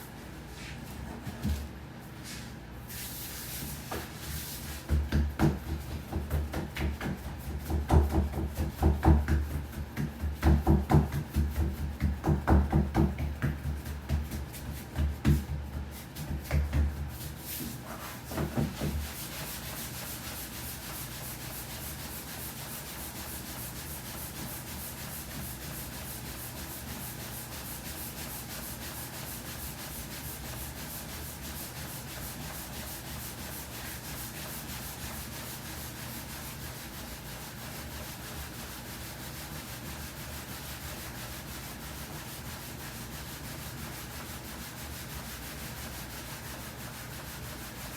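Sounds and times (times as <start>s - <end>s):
dough rubbing against wood: 0.4s - 47.9s.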